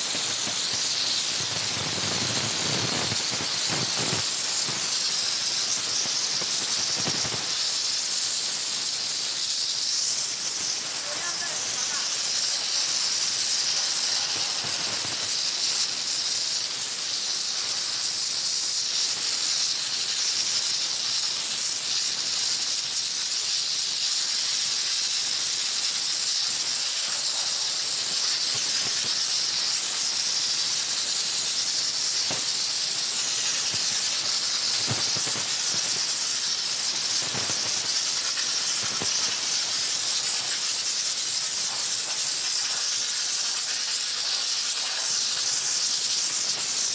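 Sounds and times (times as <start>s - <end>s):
steam jetting from spray gun: 0.0s - 46.9s.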